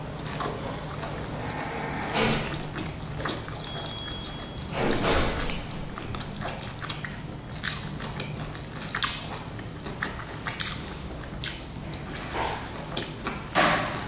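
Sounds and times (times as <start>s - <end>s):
chewing with wet smacks: 0.0s - 14.0s.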